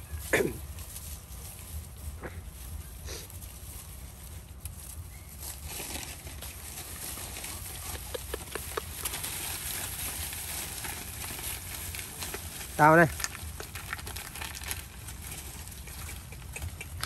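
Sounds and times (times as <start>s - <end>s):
dogs eating crunchily: 0.0s - 17.0s.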